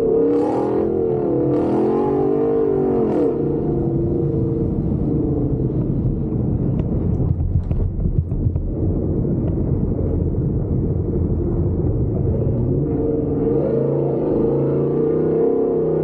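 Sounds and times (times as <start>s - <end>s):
truck engine rumbling: 0.0s - 15.9s.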